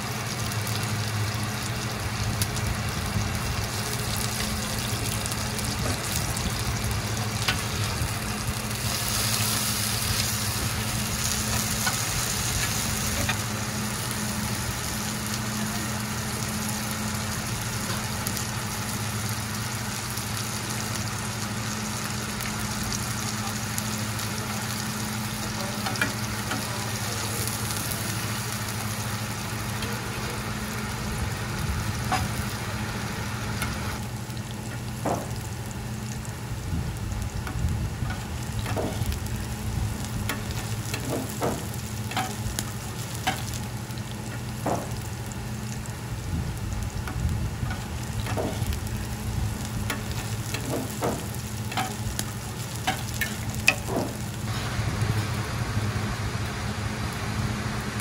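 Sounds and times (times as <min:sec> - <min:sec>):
pancake sizzling in oil: 0:00.0 - 0:58.0.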